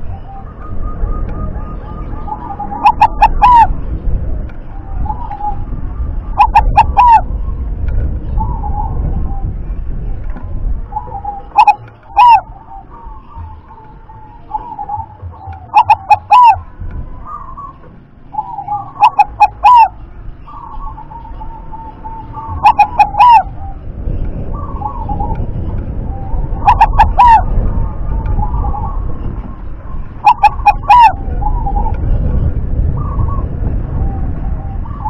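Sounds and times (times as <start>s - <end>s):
dove cooing song: 0.0s - 35.0s.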